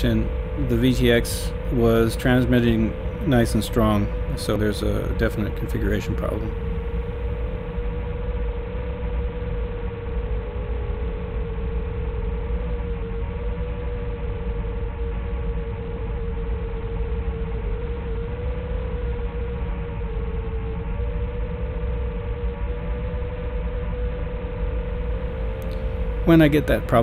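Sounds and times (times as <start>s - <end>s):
drone whine: 0.0s - 27.0s.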